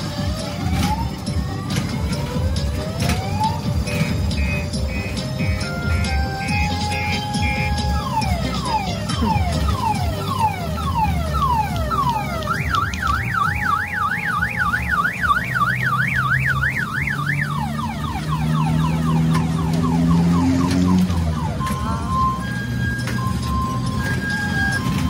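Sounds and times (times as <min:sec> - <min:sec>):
electronic siren wailing: 0:00.0 - 0:25.0.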